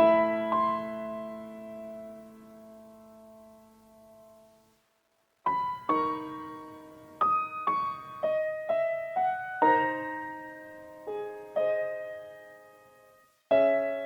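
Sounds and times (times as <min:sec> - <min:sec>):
slow piano melody: 0:00.0 - 0:04.7, 0:05.4 - 0:14.0.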